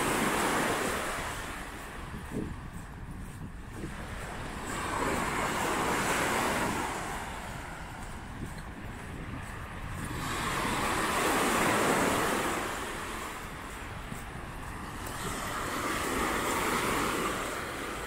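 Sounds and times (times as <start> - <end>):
waves washing onto beach: 0.0 - 18.0
wind buffeting microphone: 0.0 - 18.0.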